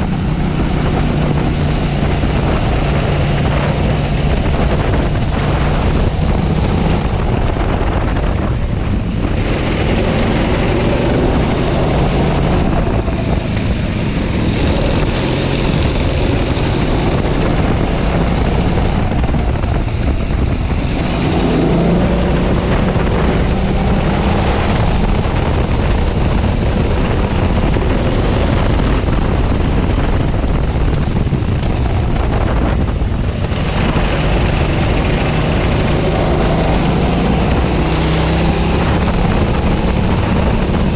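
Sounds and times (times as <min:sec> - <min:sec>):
racing kart engine: 0:00.0 - 0:40.9.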